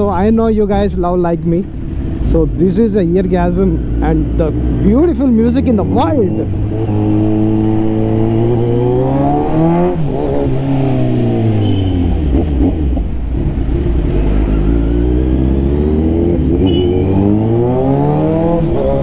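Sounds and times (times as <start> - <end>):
motorcycle engine accelerating: 1.7 - 19.0.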